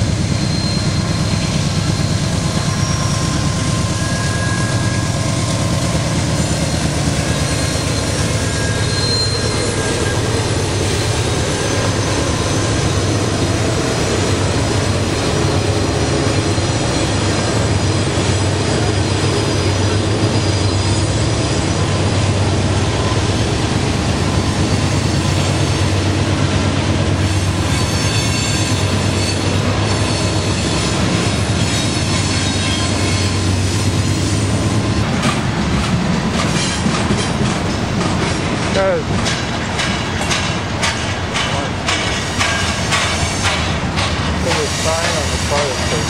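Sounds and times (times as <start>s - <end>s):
high wheel squeal: 0.0s - 21.8s, 24.1s - 26.6s, 27.2s - 35.2s, 40.2s - 46.0s
diesel locomotive passing: 0.0s - 46.0s
train wheels rumbling over rails: 0.0s - 46.0s.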